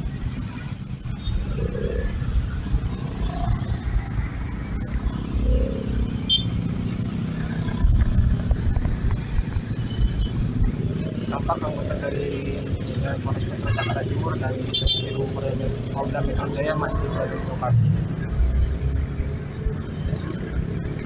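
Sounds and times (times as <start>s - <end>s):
motorbikes and cars in traffic: 0.0s - 21.0s.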